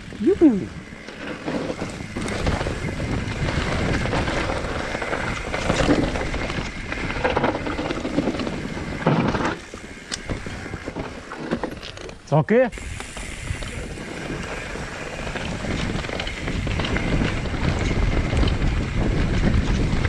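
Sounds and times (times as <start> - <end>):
wind on microphone: 0.0 - 9.6, 12.7 - 20.0
bike rattling over bumps: 0.0 - 20.0
bike tyres rolling and skidding on dirt: 0.0 - 20.0.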